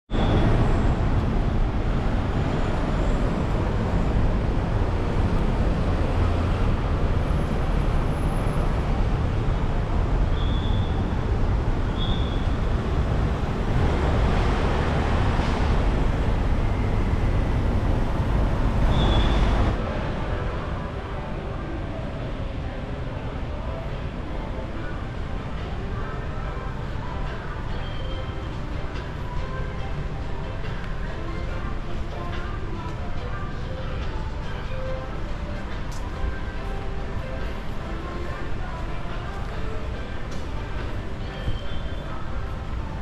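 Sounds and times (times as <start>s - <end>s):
road traffic rumble: 0.1s - 43.0s.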